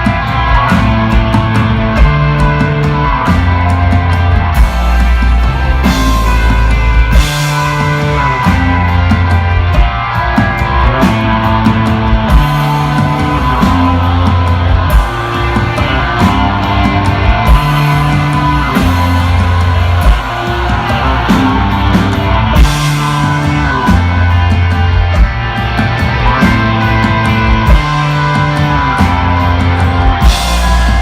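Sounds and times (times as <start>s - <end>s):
bass guitar riff: 0.0s - 31.0s
drums and cymbals: 0.0s - 31.0s
electric guitar: 0.0s - 31.0s.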